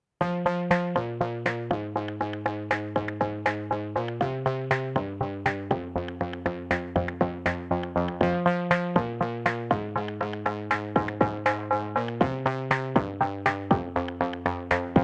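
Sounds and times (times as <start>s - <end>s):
electronic synthesizer music: 0.2s - 15.0s.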